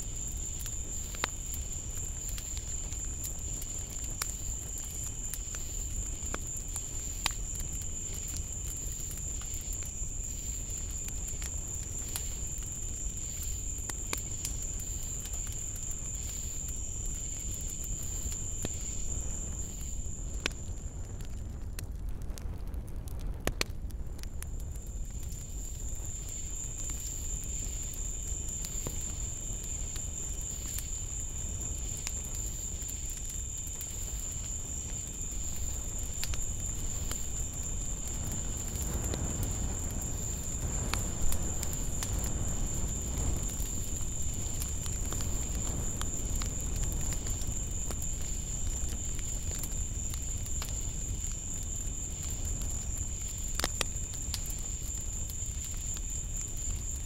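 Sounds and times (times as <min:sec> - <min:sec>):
night insects chorus: 0:00.0 - 0:21.3, 0:24.6 - 0:57.0.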